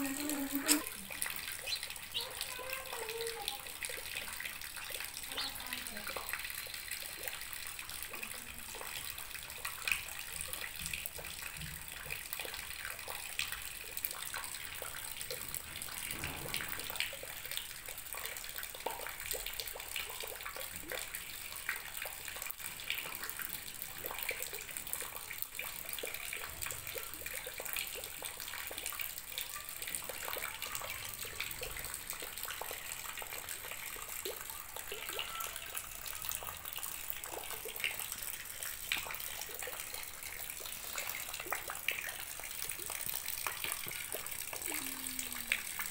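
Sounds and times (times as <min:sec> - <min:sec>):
rain: 0:00.0 - 0:45.9
water pouring into plastic basin: 0:00.0 - 0:45.9.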